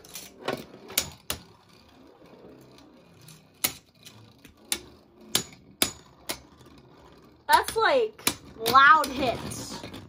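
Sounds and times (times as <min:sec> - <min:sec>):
spinning tops whirring: 0:00.0 - 0:10.0.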